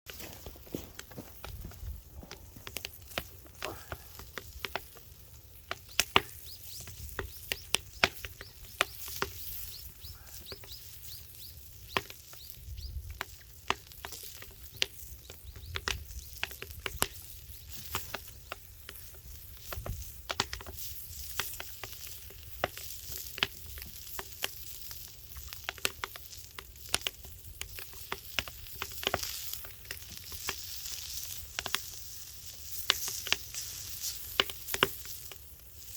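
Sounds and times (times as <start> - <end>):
fire popping and crackling: 0.1 - 35.9
steak sizzling: 0.1 - 35.9.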